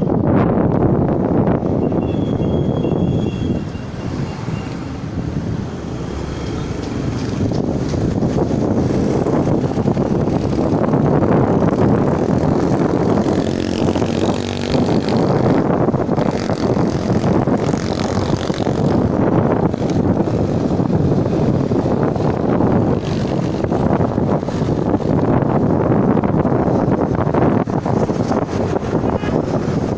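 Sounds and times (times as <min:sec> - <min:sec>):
road noise: 0:00.0 - 0:29.9
wind buffeting microphone: 0:00.0 - 0:29.9
motorcycle engine: 0:00.9 - 0:29.9.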